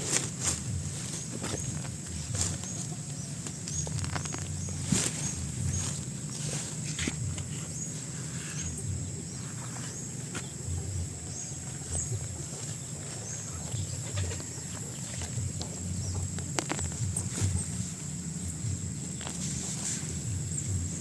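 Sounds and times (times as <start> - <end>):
birds chirping: 0.0 - 21.0
insect drone: 0.0 - 21.0.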